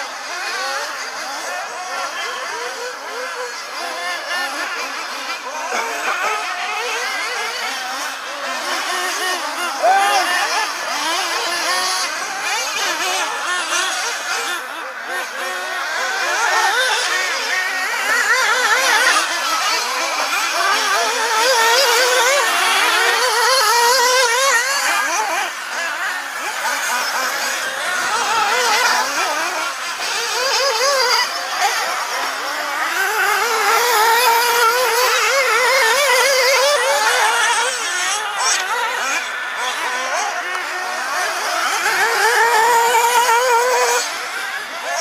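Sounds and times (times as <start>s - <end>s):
small high-revving engines whining: 0.0s - 45.0s.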